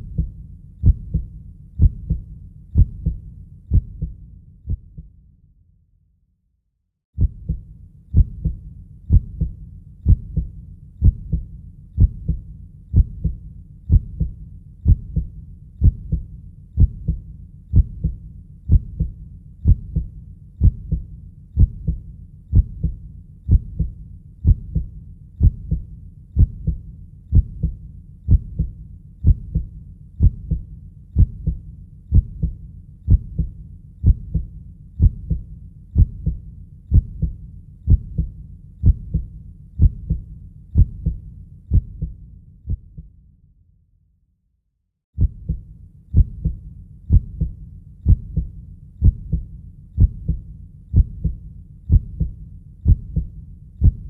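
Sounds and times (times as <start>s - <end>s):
heartbeat thumps: 0.0s - 5.1s, 7.2s - 43.1s, 45.2s - 54.0s.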